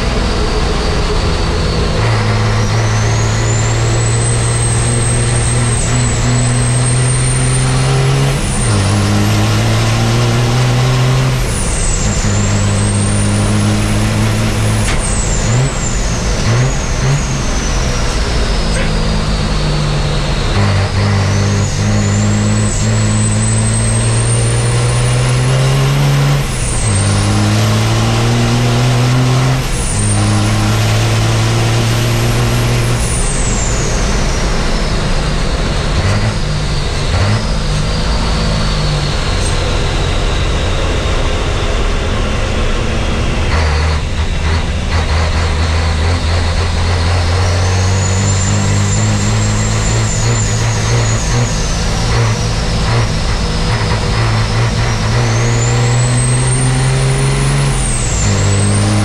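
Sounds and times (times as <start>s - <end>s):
high turbo whistle: 0.0s - 59.0s
truck engine accelerating: 0.0s - 59.0s.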